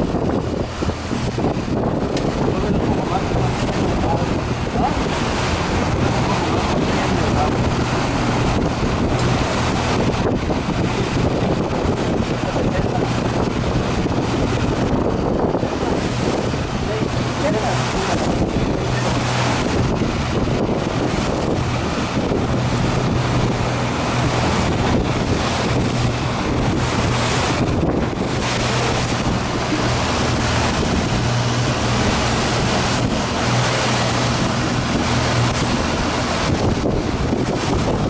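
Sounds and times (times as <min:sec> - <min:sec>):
churning boat wake: 0:00.0 - 0:38.0
outboard motor running: 0:00.0 - 0:38.0
wind buffeting microphone: 0:00.0 - 0:38.0.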